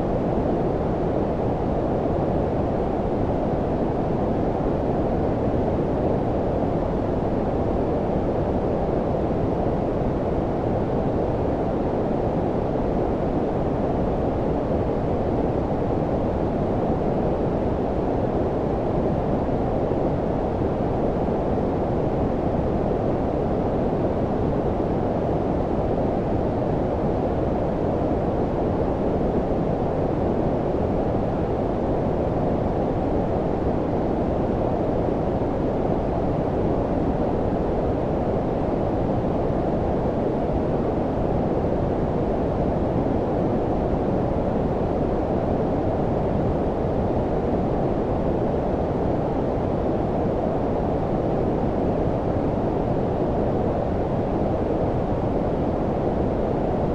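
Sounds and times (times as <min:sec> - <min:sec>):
low brown noise hiss: 0:00.0 - 0:56.9.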